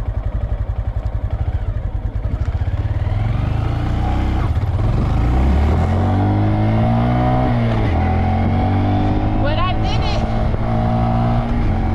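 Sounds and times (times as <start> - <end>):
motorcycle engine accelerating: 0.0 - 11.9.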